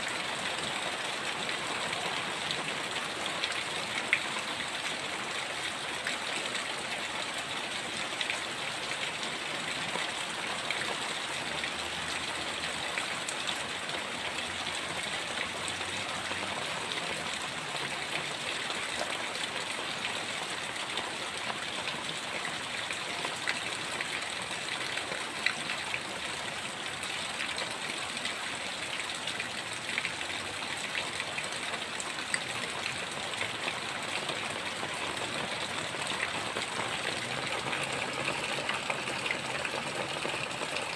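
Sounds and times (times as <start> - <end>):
raindrops ticking on surfaces: 0.0 - 40.9.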